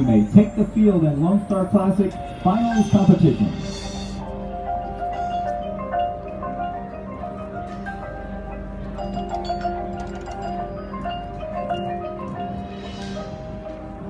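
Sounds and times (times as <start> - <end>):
marimbas playing ringing notes: 0.0 - 14.0
steady low drone: 0.0 - 14.0.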